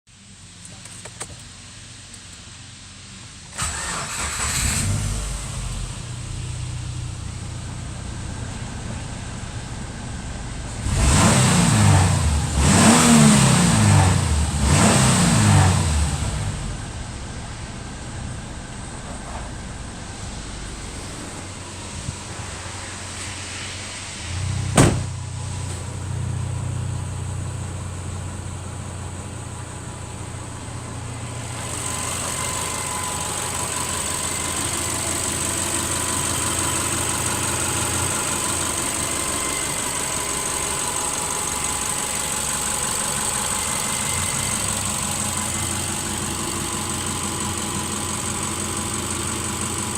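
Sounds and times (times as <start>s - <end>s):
car engine starting and idling: 0.2s - 49.9s.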